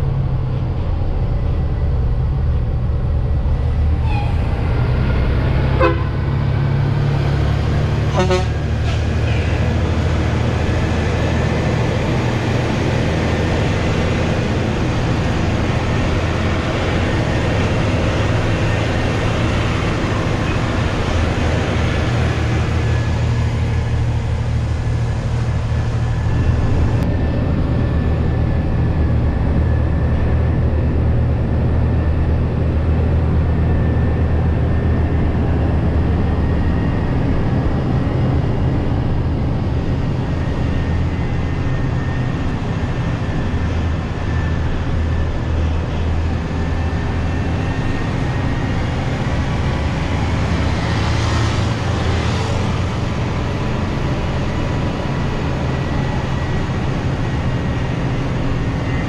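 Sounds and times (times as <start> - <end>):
diesel truck engine running: 0.0 - 59.0
road and wind noise: 0.0 - 59.0.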